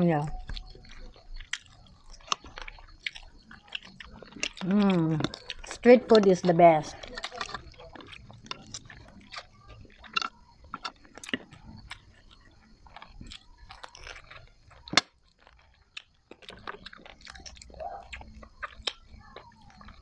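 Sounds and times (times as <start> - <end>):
chewing food: 0.0 - 20.0.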